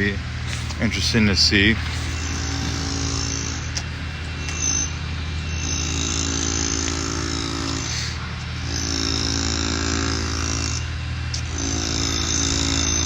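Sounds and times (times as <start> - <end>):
heavy machinery engine drone: 0.0 - 13.0
high-pitched machine tone: 0.0 - 13.0.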